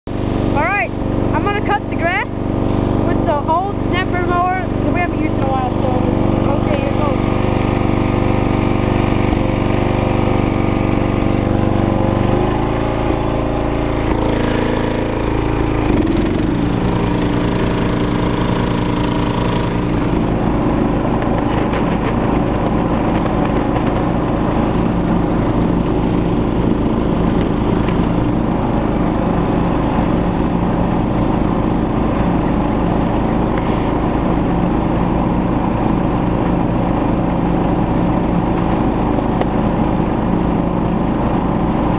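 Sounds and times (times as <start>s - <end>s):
lawn tractor engine cutting grass: 0.1s - 41.9s.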